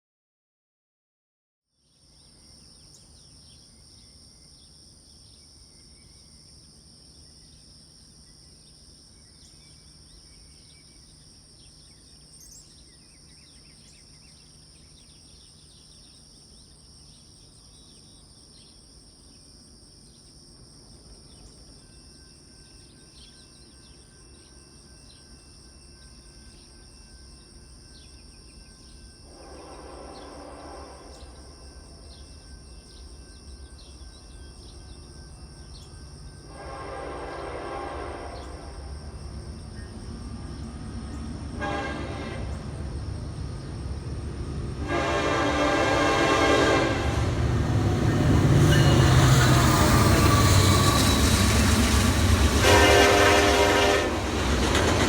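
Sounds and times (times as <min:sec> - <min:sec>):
high-pitched insect drone: 0:02.1 - 0:41.5, 0:46.9 - 0:52.6.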